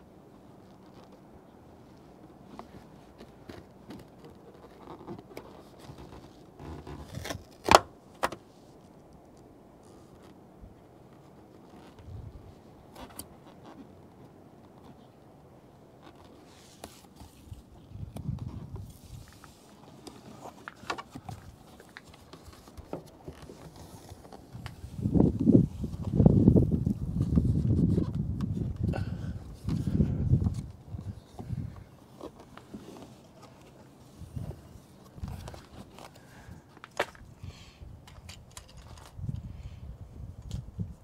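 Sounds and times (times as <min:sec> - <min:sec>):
hands rustling and scraping plastic: 0:00.4 - 0:39.4.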